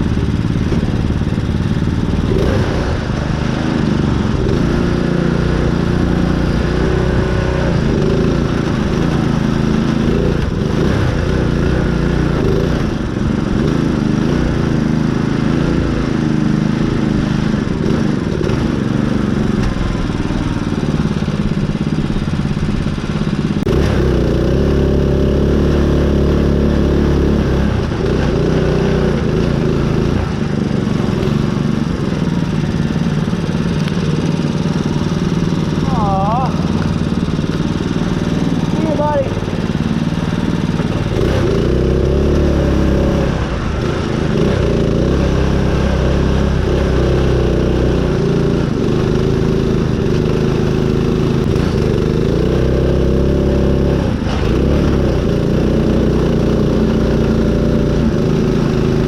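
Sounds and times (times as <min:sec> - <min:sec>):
small engine running hard: 0:00.0 - 0:59.0.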